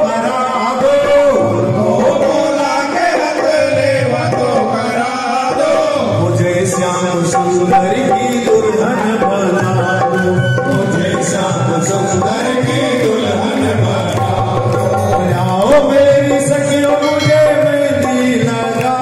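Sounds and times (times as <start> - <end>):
man singing over loudspeaker: 0.0 - 19.0
tabla: 0.0 - 19.0
sustained instrumental notes: 1.2 - 19.0.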